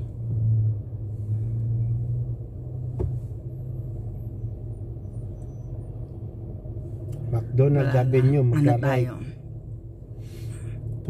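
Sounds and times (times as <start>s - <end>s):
car rumble inside cabin: 0.0s - 11.0s.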